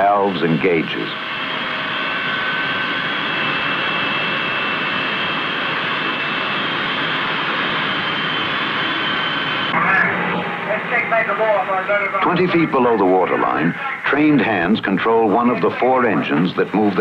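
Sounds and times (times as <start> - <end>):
high whining tones: 0.0 - 17.0
machinery roar: 0.0 - 17.0.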